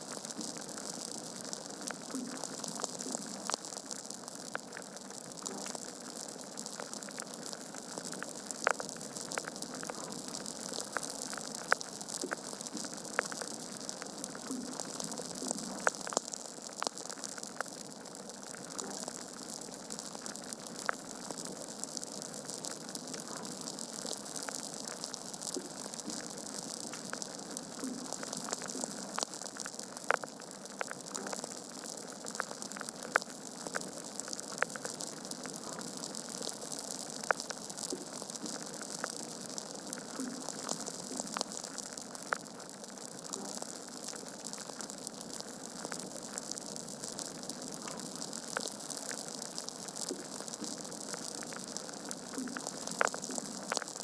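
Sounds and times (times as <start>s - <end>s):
fire popping and snapping: 0.1s - 54.0s
wood fire crackling: 0.1s - 54.0s.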